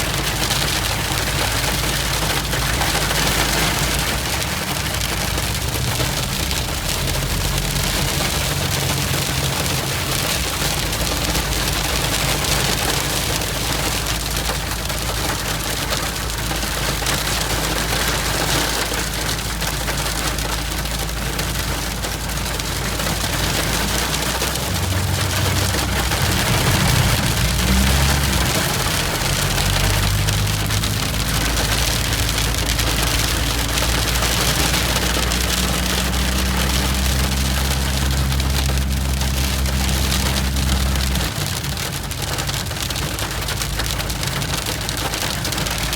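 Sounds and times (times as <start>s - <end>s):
hail pattering on hard surface: 0.0s - 45.9s.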